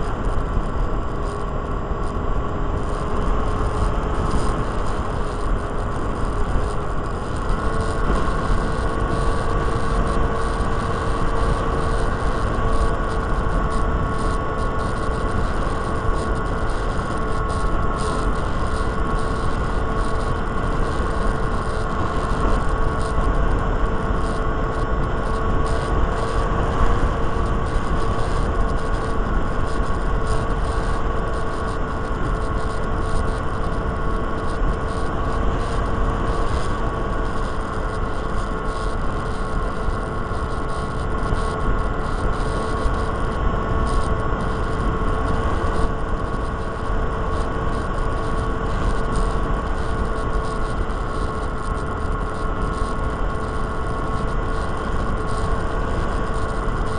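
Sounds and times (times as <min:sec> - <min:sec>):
wind rumbling on microphone: 0:00.0 - 0:56.9.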